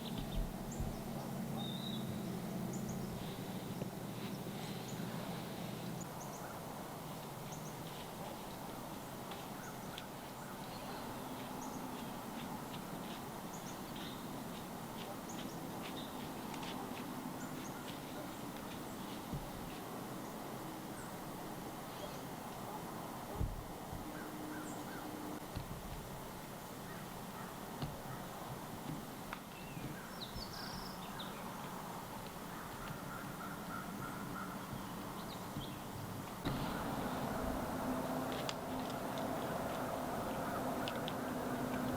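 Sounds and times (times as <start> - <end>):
birds chirping: 0.0 - 21.3, 21.9 - 25.4, 29.1 - 41.9
woodland ambience hiss: 0.0 - 41.9.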